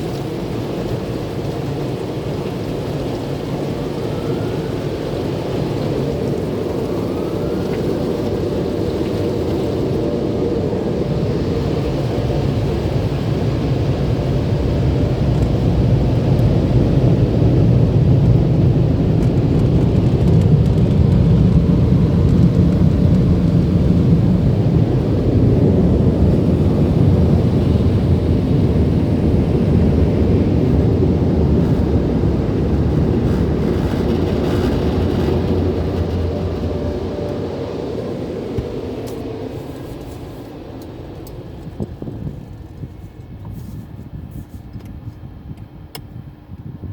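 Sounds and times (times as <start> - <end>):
car wash dryer blowers roaring: 0.0 - 46.9.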